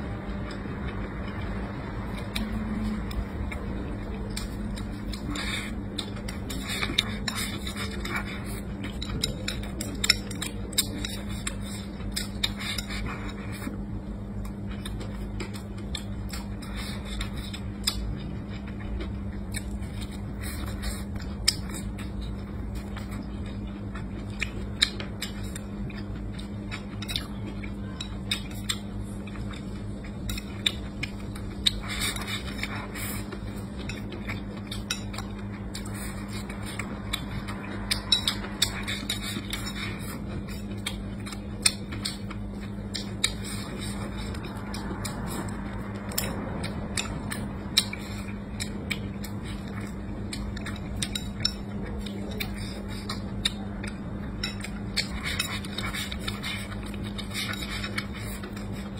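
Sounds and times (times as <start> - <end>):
steady low hum: 0.0 - 58.9
chewing: 0.4 - 58.9.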